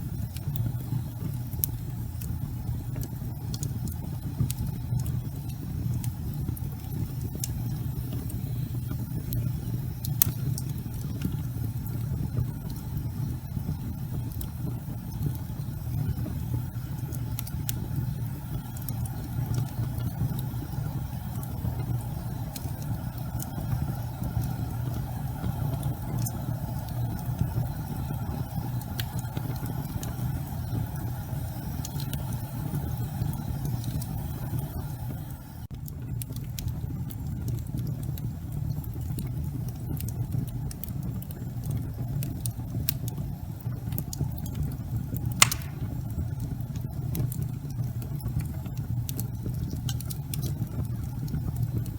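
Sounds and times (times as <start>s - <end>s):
low rumble of flames: 0.0s - 51.9s
wood fire crackling: 0.0s - 51.9s.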